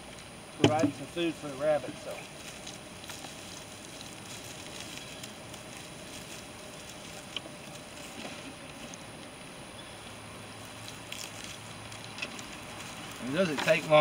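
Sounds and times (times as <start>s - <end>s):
leaves and stems rustling: 0.0s - 14.0s
steady outdoor hiss: 0.0s - 14.0s.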